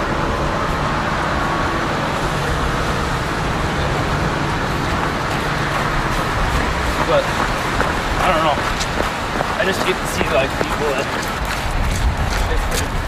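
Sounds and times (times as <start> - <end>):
vehicle driving on wet road: 0.0 - 13.0.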